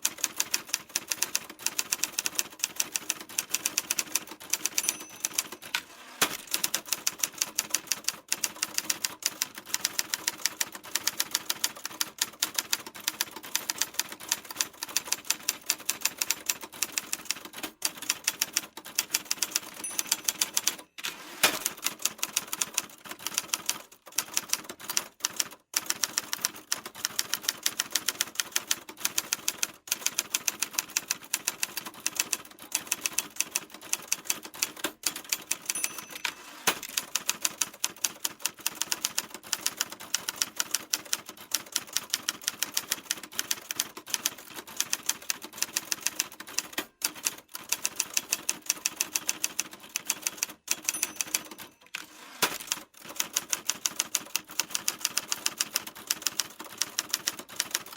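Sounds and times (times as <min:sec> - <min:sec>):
typewriter keys clicking: 0:00.0 - 0:57.9.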